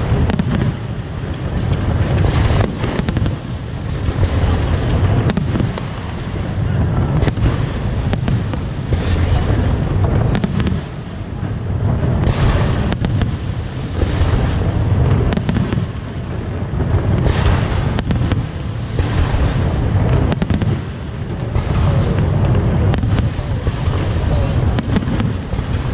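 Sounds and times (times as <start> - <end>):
booming firework shells: 0.0 - 25.9
crackling firework reports: 0.0 - 25.9.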